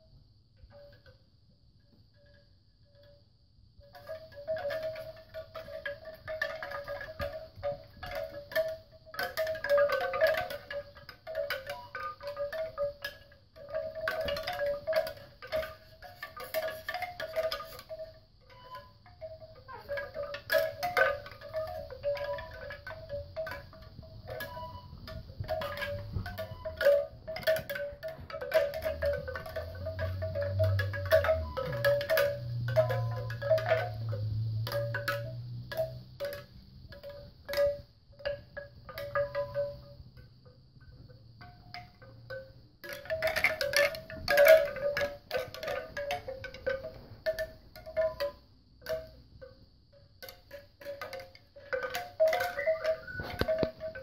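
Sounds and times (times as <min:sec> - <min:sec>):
bamboo wind chime clattering: 0:00.0 - 0:54.0.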